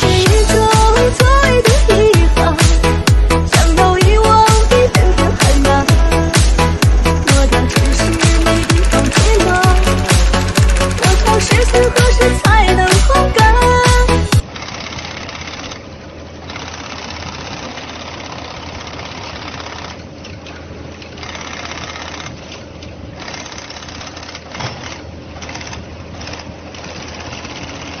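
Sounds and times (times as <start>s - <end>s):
low motor hum: 0.0s - 24.4s.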